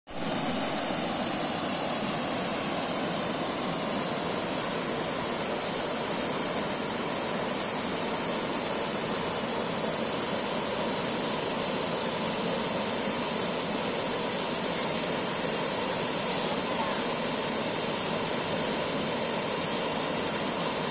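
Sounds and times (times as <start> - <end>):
small waterfall rushing: 0.1 - 20.9.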